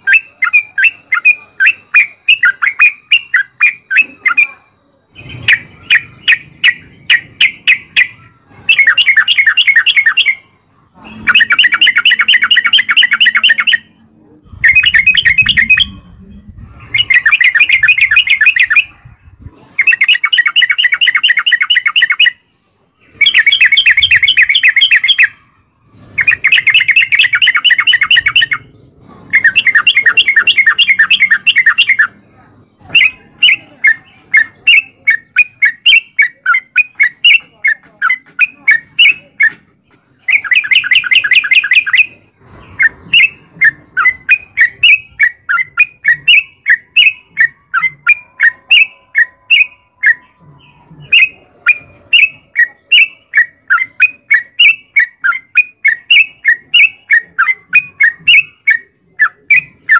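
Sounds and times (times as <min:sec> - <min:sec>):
bird rolling chatter: 0:00.0 - 0:22.4, 0:23.0 - 0:59.9.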